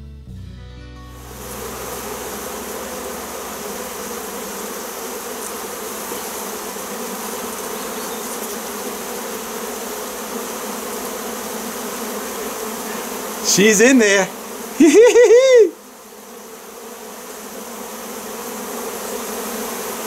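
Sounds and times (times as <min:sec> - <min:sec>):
bee swarm buzzing: 0:01.2 - 0:20.0.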